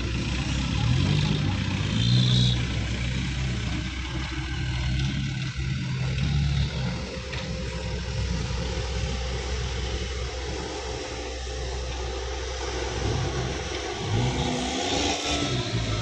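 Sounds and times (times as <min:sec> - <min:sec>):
dump truck engine running: 0:00.0 - 0:16.0.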